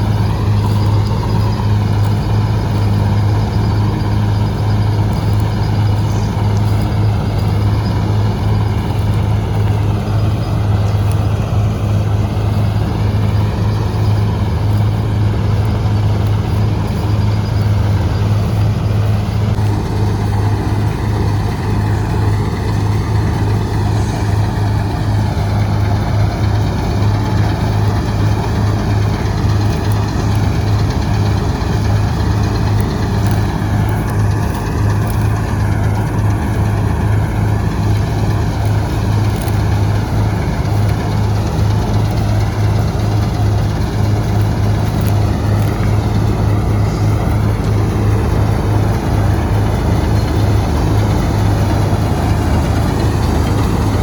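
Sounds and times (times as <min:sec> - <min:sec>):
combine harvester engine drone: 0:00.0 - 0:54.0
machinery clatter and hiss: 0:00.0 - 0:54.0.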